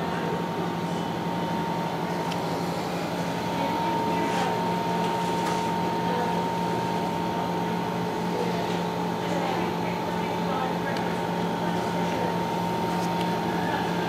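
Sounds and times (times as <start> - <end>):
machine hum with whine: 0.0 - 14.0.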